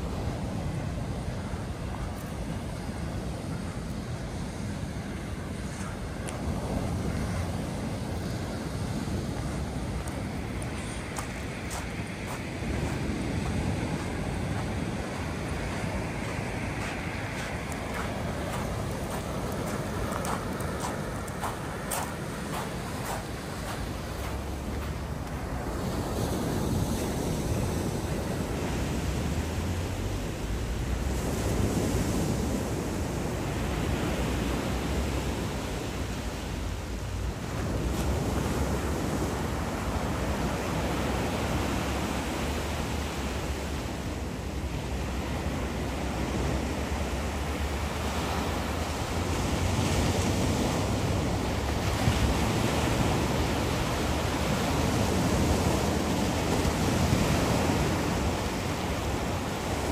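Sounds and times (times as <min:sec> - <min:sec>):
sea surf breaking on beach: 0:00.0 - 0:59.9
wind buffeting microphone: 0:00.0 - 0:59.9.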